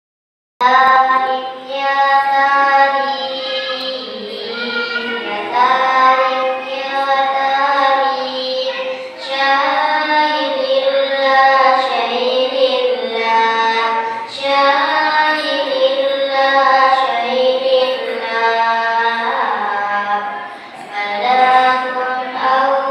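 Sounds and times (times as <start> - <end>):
person singing devotional chant: 0.6 - 22.9.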